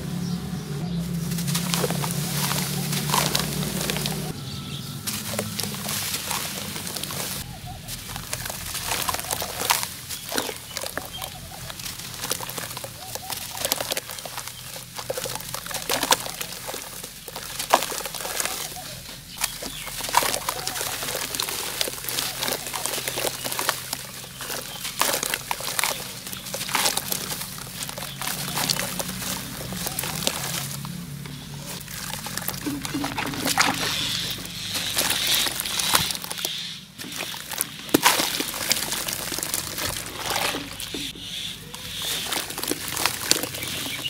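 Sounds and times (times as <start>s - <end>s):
dry dirt crunching by hand: 0.0s - 44.0s.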